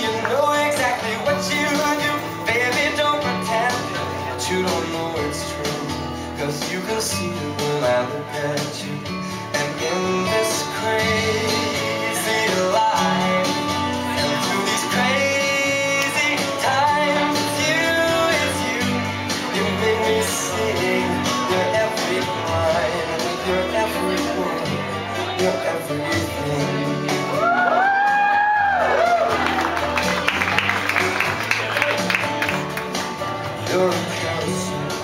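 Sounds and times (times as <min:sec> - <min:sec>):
person singing: 0:00.0 - 0:28.1, 0:33.3 - 0:35.0
country song led by guitar: 0:00.0 - 0:35.0.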